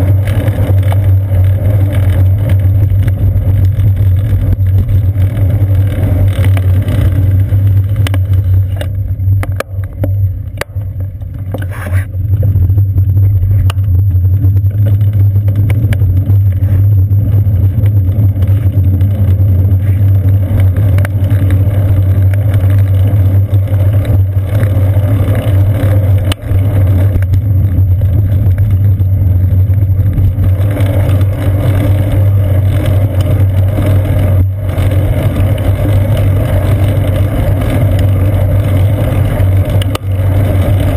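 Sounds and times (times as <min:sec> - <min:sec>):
wind and road rumble: 0:00.0 - 0:40.9.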